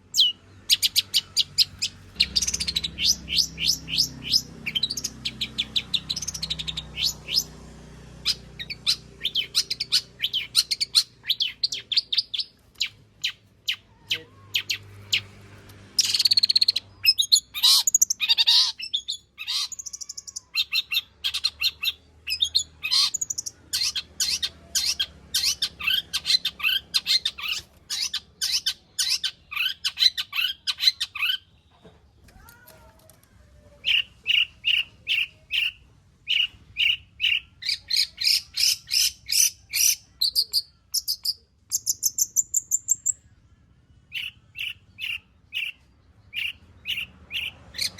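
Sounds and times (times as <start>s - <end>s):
bird singing high chirps: 0.0s - 32.0s, 33.8s - 47.9s.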